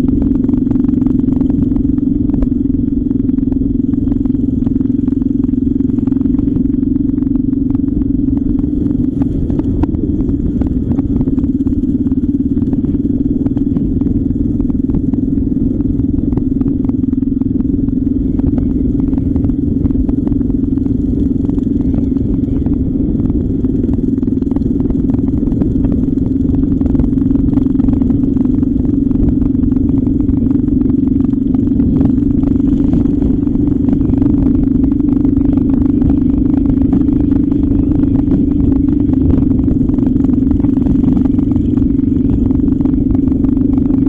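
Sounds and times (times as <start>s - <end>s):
car engine and tyre drone: 0.0s - 44.0s
rattles from rough road: 0.0s - 44.0s.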